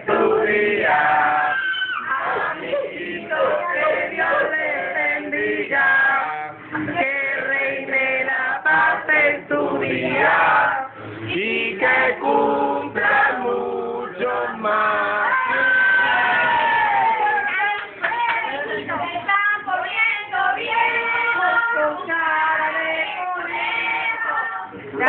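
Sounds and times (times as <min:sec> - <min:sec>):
group singing a birthday song: 0:00.0 - 0:25.0.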